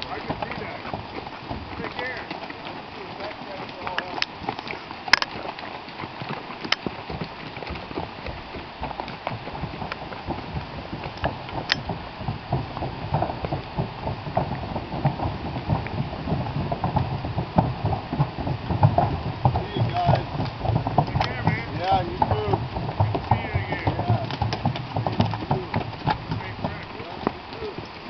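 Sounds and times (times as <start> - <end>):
hooves on wooden bridge: 0.0 - 28.0.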